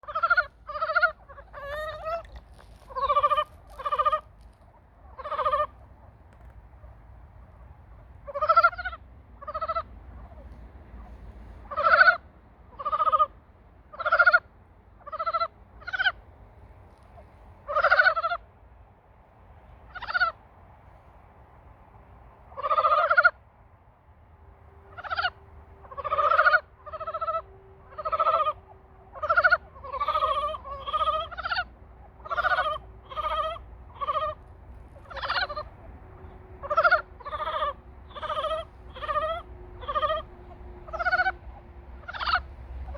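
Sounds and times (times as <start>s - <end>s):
frogs croaking: 0.0s - 16.2s, 17.7s - 18.4s, 19.9s - 20.4s, 22.5s - 23.4s, 24.7s - 42.9s.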